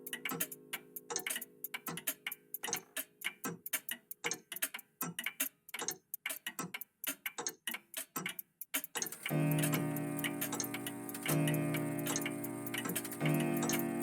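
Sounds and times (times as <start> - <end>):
mechanical clocks ticking: 0.0 - 14.0.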